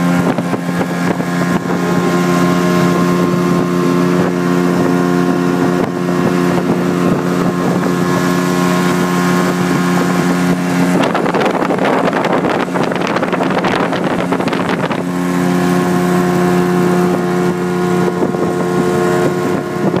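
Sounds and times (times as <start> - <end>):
outboard motor droning: 0.0 - 20.0
wind rushing over microphone: 0.0 - 20.0.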